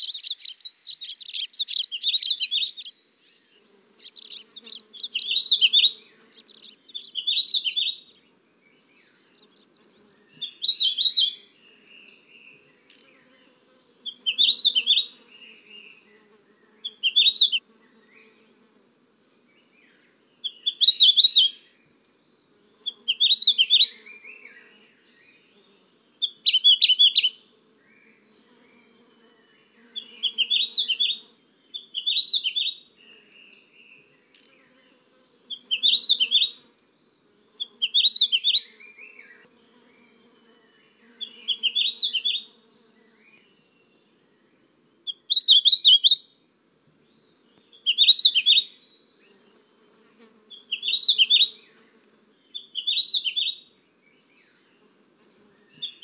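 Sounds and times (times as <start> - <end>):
songbird chirping: 0.0 - 36.7, 37.4 - 56.0.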